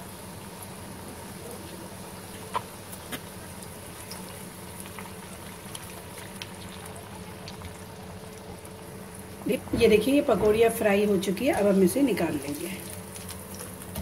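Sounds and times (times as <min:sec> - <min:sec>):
food deep-frying in hot oil: 0:00.0 - 0:14.0.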